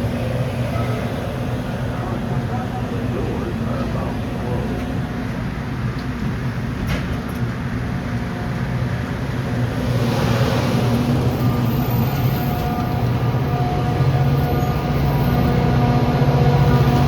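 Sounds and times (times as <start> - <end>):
diesel train engine drone: 0.0 - 17.0
wheel and rail noise: 0.0 - 17.0.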